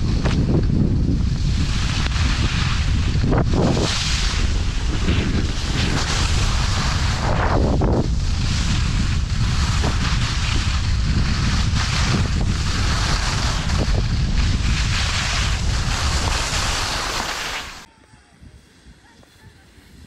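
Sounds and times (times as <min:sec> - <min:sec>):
skis sliding over packed snow: 0:00.0 - 0:17.9
wind buffeting microphone: 0:00.0 - 0:18.6.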